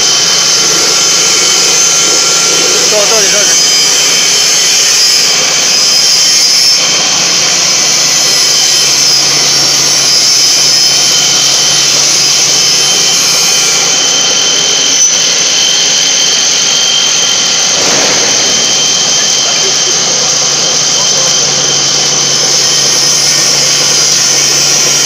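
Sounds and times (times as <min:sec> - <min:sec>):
grinder mill whining: 0:00.0 - 0:25.0.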